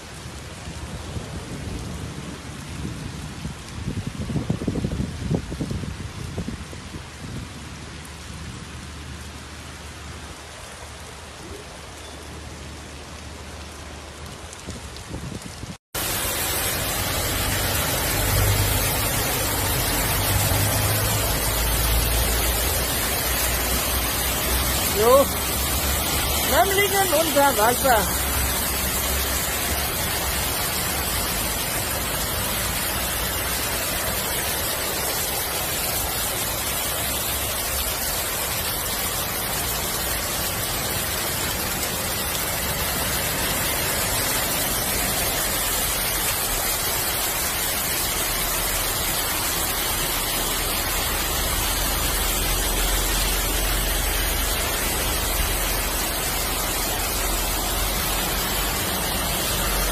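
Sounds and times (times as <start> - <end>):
heavy rain and floodwater pouring: 0.0 - 59.9.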